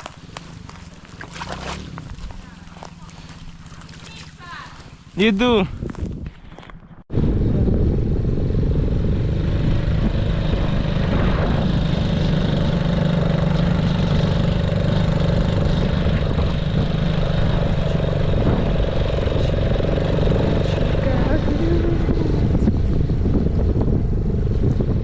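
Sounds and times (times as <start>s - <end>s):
vehicle engine running: 0.0s - 5.5s, 7.1s - 25.0s.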